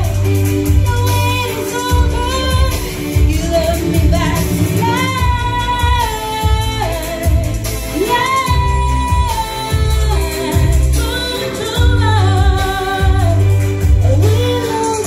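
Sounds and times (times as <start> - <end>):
backing music with bass line: 0.0 - 15.0
woman singing into a microphone: 0.0 - 15.0.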